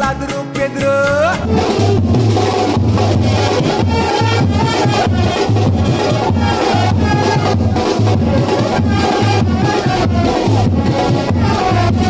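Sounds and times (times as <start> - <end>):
loud music with heavy bass beat: 0.0 - 12.0.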